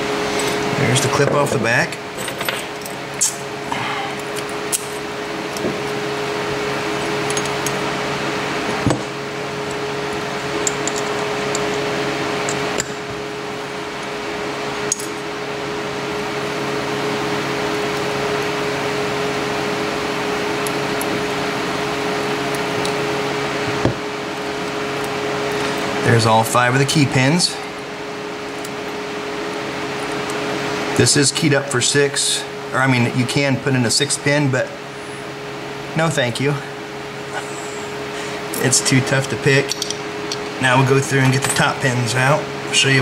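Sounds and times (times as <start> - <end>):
steady machine hum: 0.0 - 43.0.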